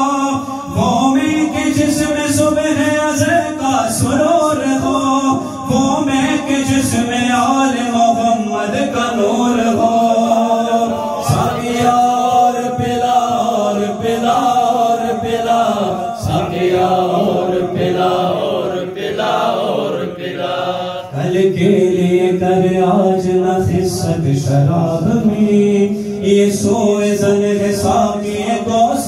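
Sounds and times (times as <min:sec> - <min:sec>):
man singing devotional song: 0:00.0 - 0:29.0.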